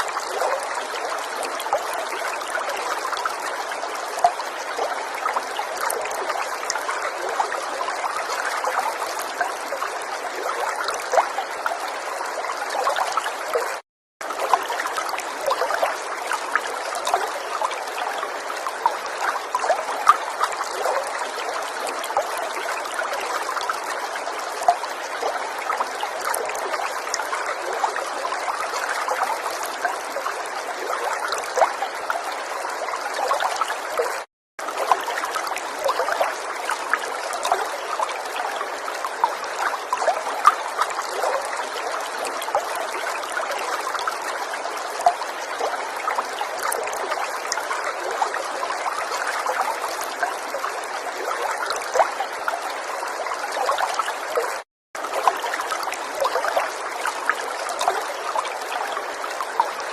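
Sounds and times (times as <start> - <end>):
river water flowing: 0.0 - 59.9
small splashes and trickles: 0.0 - 59.9.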